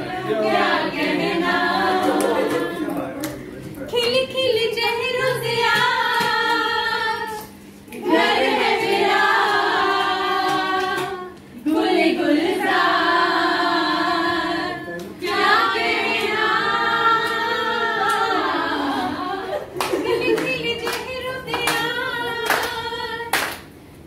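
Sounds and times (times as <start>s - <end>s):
women singing unaccompanied: 4.0s - 23.5s.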